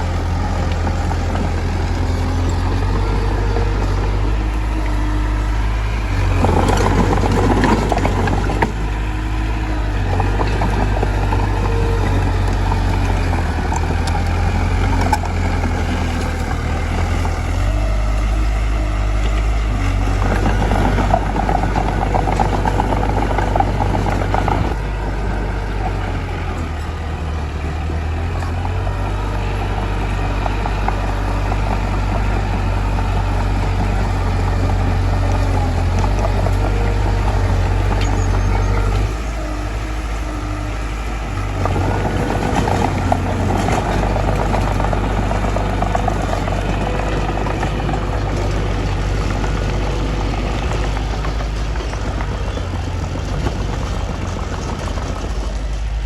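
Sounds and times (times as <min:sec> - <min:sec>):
bulldozer diesel engine running: 0:00.0 - 0:56.0
loud rattling and clattering: 0:00.0 - 0:56.0.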